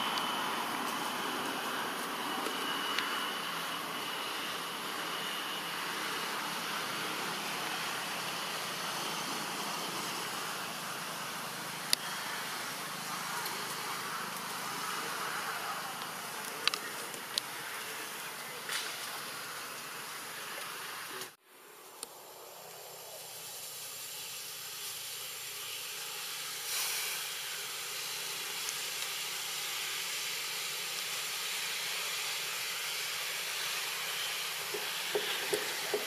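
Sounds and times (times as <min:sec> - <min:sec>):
high outdoor hiss: 0:00.0 - 0:36.0.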